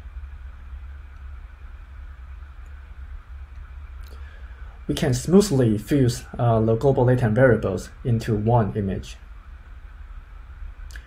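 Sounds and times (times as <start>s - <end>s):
low hum with faint hiss: 0.0s - 11.0s.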